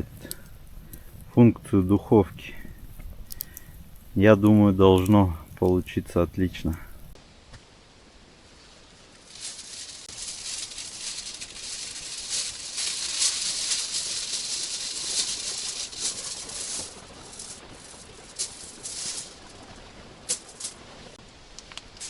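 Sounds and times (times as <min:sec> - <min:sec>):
aluminium foil crinkling: 0:00.0 - 0:07.2, 0:09.3 - 0:21.0.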